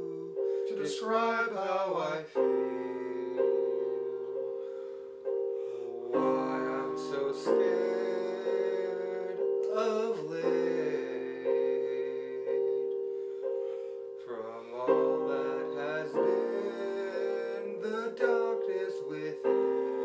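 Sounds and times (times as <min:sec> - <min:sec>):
man singing: 0:00.0 - 0:20.0
slow piano chords: 0:00.0 - 0:20.0.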